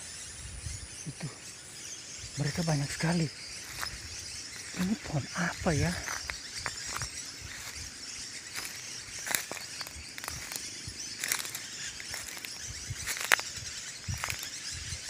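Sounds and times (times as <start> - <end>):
insect hiss: 0.0 - 15.0.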